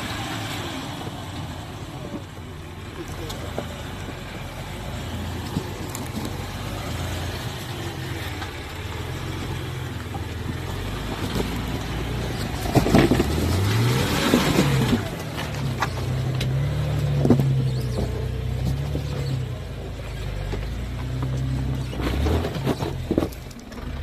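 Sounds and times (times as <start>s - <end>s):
car engine running: 0.0s - 24.0s
tyres knocking and scraping on rock: 1.8s - 24.0s.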